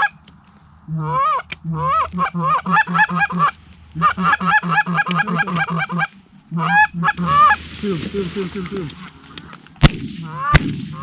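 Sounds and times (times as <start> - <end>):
goose honking: 0.9 - 9.6, 10.2 - 11.0.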